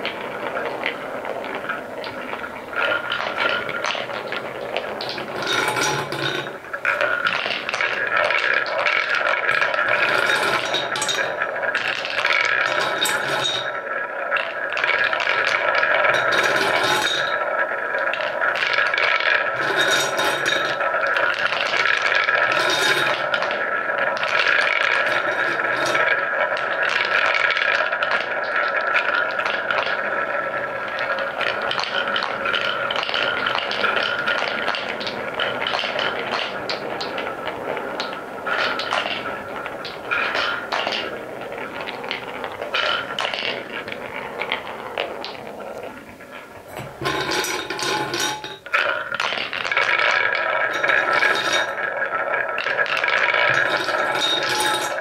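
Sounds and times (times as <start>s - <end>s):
wooden balls clacking: 0.0s - 55.0s
wooden balls rolling: 0.0s - 55.0s.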